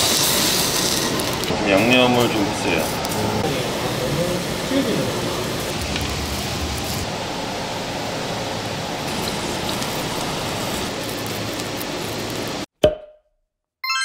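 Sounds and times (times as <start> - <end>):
meat sizzling on a grill: 0.0 - 12.7.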